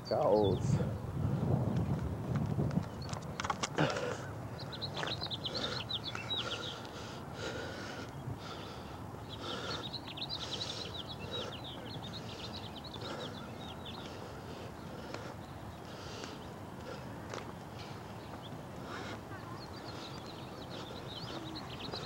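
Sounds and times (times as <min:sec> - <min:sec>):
songbird chirping: 0:00.0 - 0:01.1, 0:02.8 - 0:22.0
footsteps on paved path: 0:01.0 - 0:22.0.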